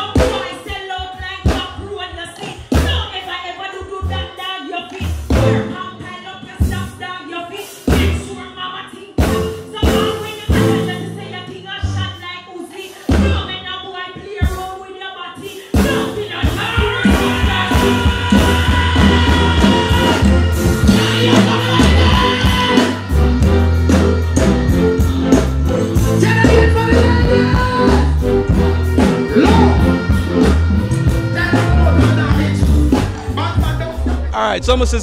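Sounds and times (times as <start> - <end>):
live band music: 0.0 - 35.0
person singing: 0.0 - 35.0.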